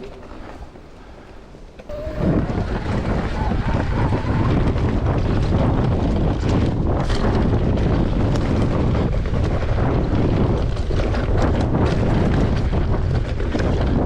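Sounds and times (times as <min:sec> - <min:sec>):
wind rushing over microphone: 0:01.9 - 0:14.0.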